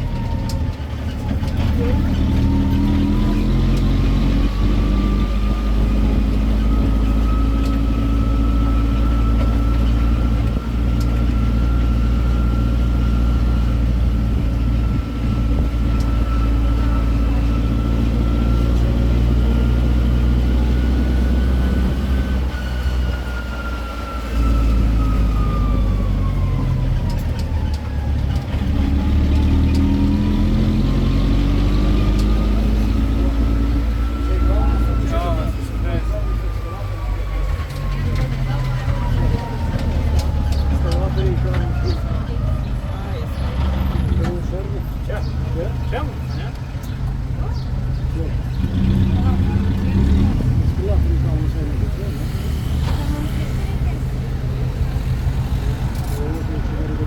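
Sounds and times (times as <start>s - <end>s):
road train engine running: 0.0s - 57.0s.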